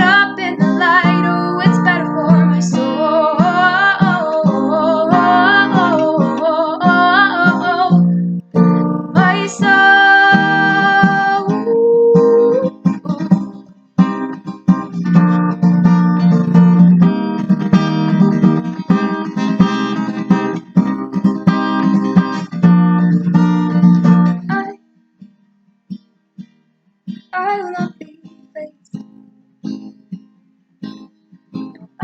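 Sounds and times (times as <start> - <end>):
guitar strumming chords: 0.0 - 26.5, 27.1 - 32.0.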